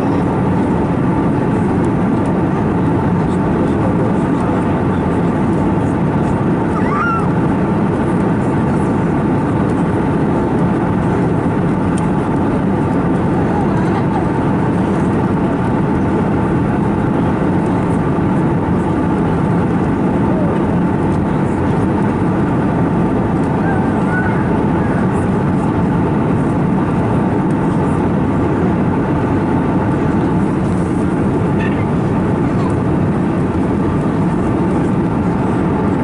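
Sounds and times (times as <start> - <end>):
airliner cabin noise: 0.0 - 36.0.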